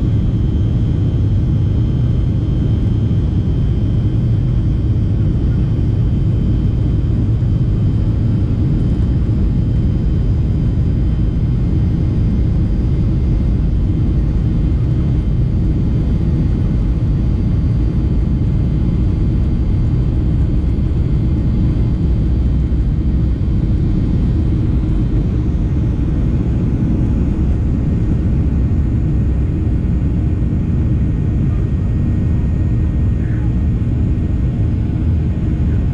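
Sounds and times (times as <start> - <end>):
faint engine whines: 0.0 - 35.9
jet cabin rumble: 0.0 - 35.9.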